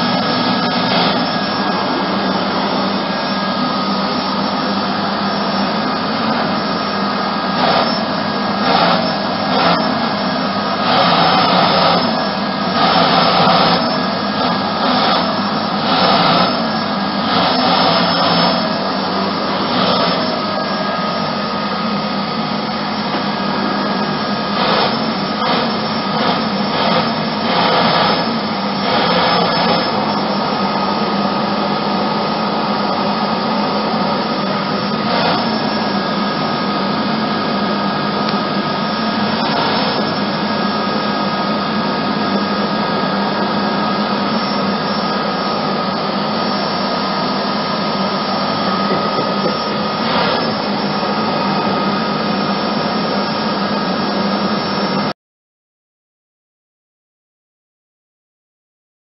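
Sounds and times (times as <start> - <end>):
vacuum cleaner running: 0.0 - 55.2.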